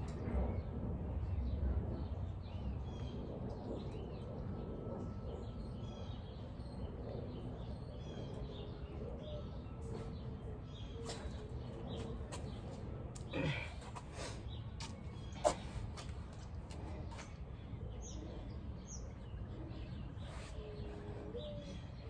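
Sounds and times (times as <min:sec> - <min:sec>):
birds chirping: 0:00.0 - 0:22.0
low outdoor rumble: 0:00.0 - 0:22.0.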